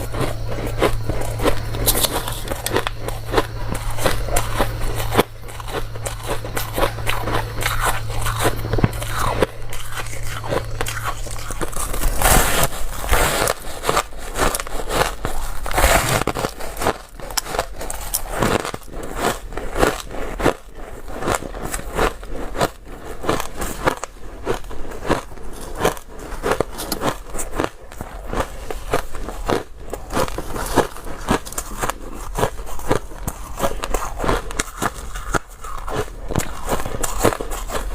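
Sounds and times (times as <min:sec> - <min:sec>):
crunching ice: 0:00.0 - 0:37.9
low steady hum: 0:00.0 - 0:37.9.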